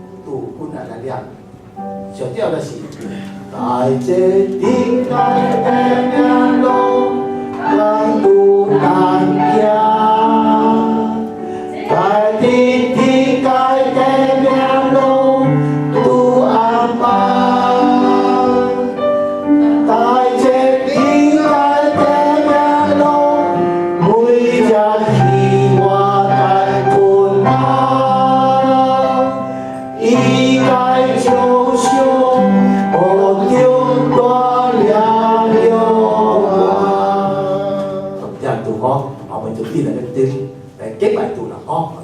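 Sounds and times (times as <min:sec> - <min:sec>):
worship song with instruments: 0:00.0 - 0:42.0.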